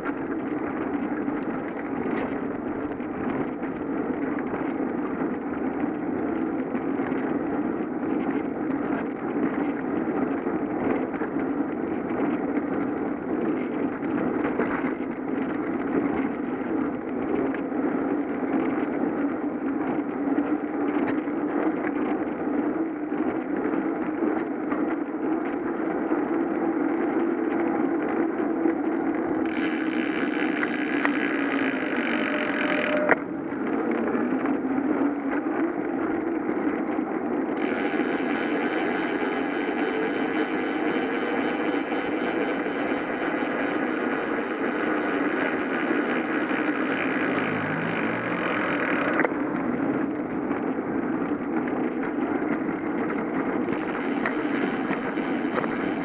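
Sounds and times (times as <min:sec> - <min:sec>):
bicycle tyre noise: 0:00.0 - 0:56.0.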